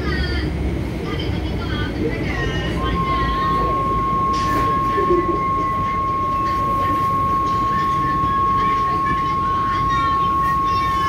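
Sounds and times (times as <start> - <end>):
train running rumble and whine: 0.0 - 11.0.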